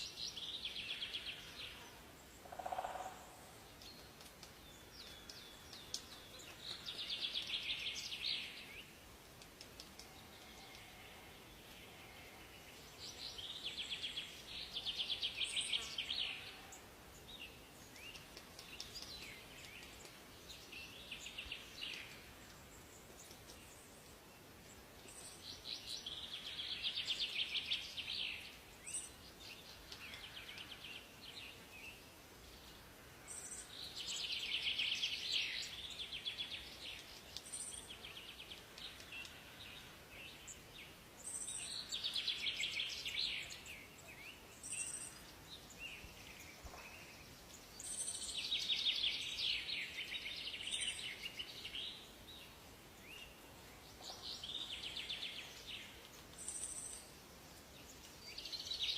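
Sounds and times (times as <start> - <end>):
faint steady hiss: 0.0 - 58.9
songbirds trilling: 9.8 - 58.9.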